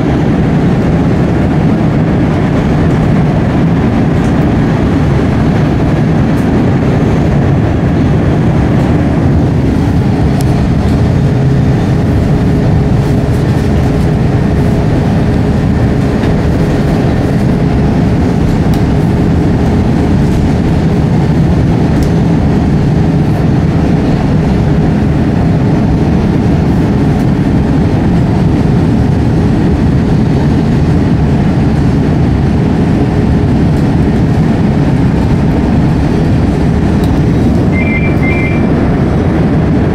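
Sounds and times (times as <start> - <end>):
thin steady whine: 0.0 - 39.9
train wheels rumbling on rail: 0.0 - 39.9.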